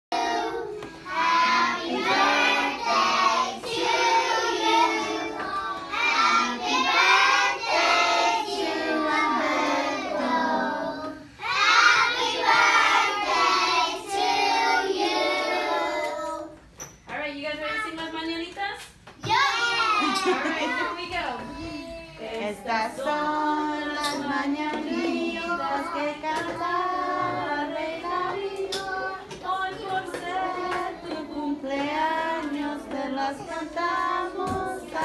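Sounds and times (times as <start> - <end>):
children singing in chorus: 0.2 - 16.4, 23.0 - 35.0.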